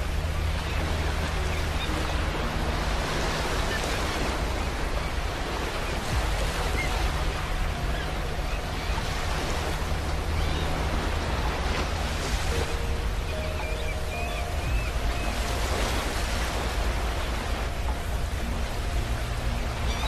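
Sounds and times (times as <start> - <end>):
waves washing onto beach: 0.0 - 20.0.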